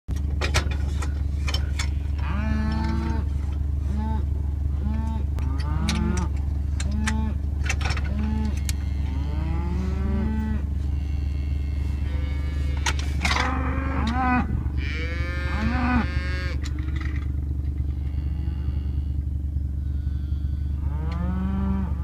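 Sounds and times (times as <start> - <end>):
steady low hum: 0.1 - 22.0
cattle mooing: 1.7 - 22.0.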